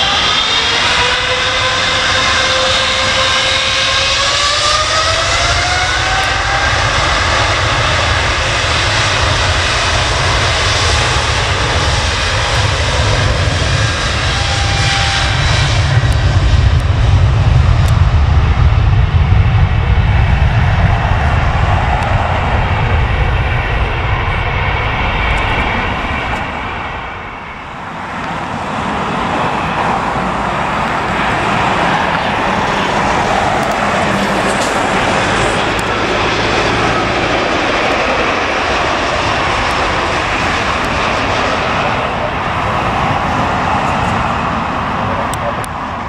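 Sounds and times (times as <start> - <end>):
airliner engine noise: 0.0 - 46.0.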